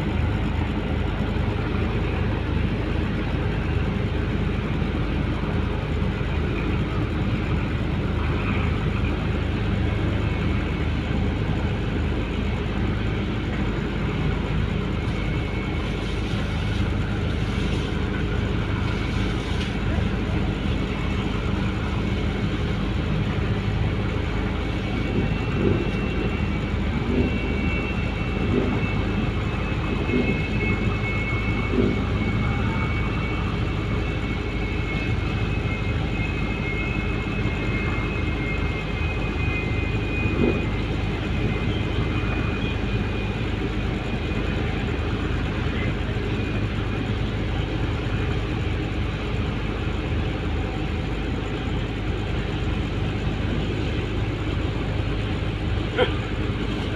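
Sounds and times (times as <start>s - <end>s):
boat engine droning: 0.0s - 56.9s.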